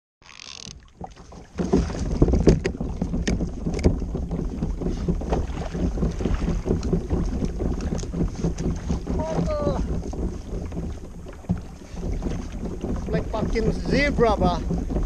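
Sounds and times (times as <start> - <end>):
water sloshing against hull: 0.2 - 15.0
sharp clicks and knocks: 0.3 - 15.0
wind buffeting microphone: 1.0 - 15.0.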